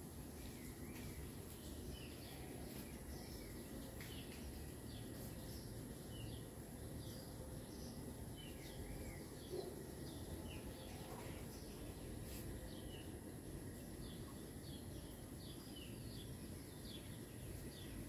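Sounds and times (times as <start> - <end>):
low background noise: 0.0 - 18.0
small birds chirping: 0.0 - 18.0.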